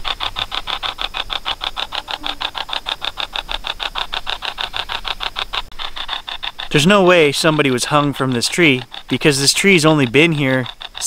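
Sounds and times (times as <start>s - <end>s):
rapid static pulses: 0.0s - 11.0s.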